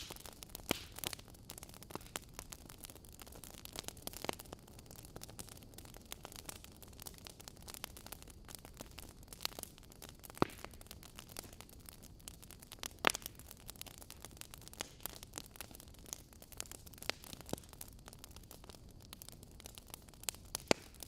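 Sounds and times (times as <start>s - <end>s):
logs crackling in fireplace: 0.0s - 21.0s.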